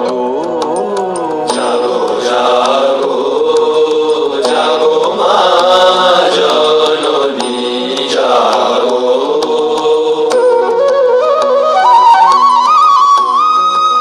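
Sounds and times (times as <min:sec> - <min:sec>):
devotional chanting with music: 0:00.0 - 0:12.0.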